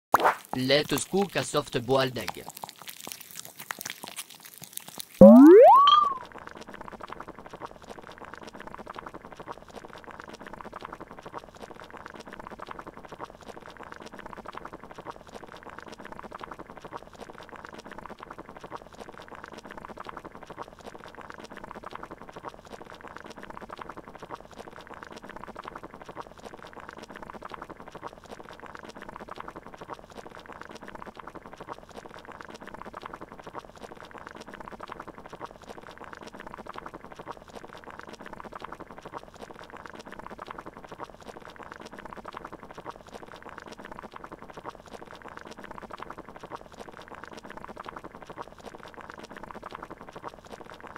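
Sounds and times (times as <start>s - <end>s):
water bubbling at a boil: 0.2s - 50.9s.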